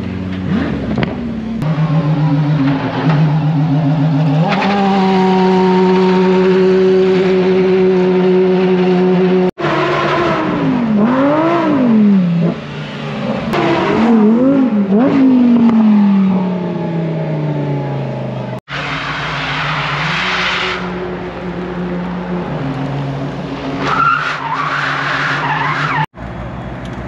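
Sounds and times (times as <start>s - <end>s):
car engines revving: 0.0s - 27.0s
rushing tyre noise: 0.0s - 27.0s.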